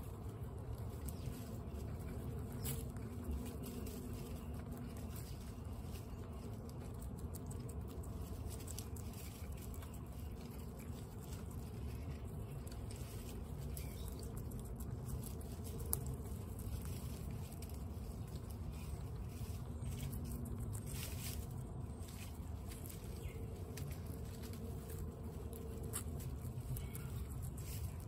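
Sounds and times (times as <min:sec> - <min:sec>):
guinea pigs crunching pellets: 0:00.0 - 0:28.0
low background rumble: 0:00.0 - 0:28.0.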